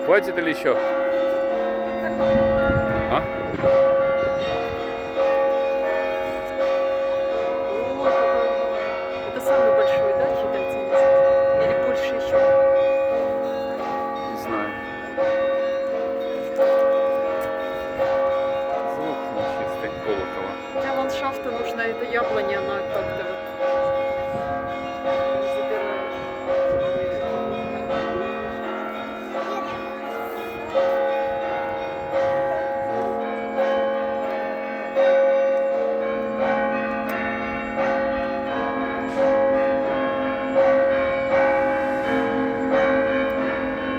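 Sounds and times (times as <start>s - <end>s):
heavy church bell strikes: 0.0s - 43.9s.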